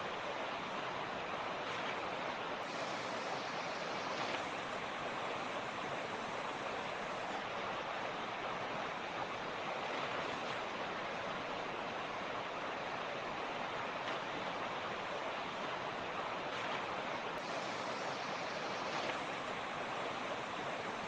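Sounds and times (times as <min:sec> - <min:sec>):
creek rushing over rocks: 0:00.0 - 0:21.0.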